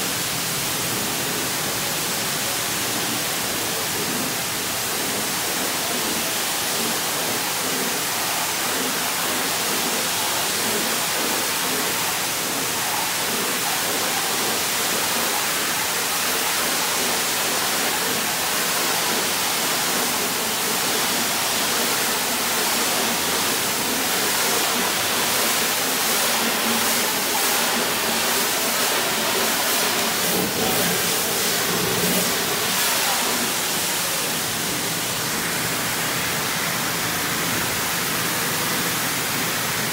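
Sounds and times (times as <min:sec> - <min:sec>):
water jet spraying metal panels: 0:00.0 - 0:39.9.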